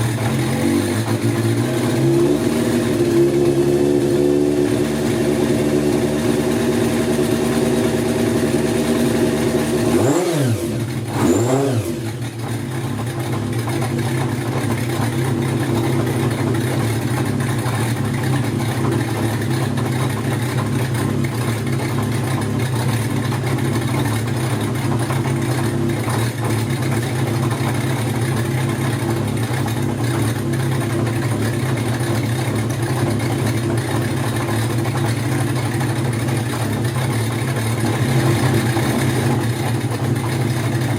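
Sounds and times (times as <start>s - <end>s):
motorcycle engine idling: 0.0s - 40.9s
motorcycle throttle revving: 0.0s - 40.9s.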